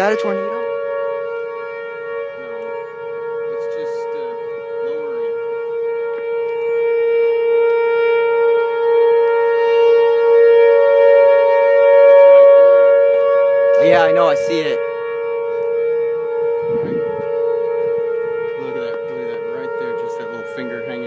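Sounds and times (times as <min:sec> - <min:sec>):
warning siren wailing: 0:00.0 - 0:21.0.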